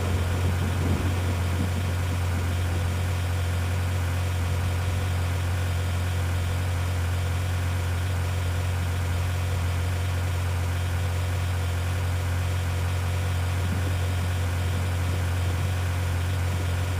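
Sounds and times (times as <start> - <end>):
vehicle engine droning: 0.0 - 16.9.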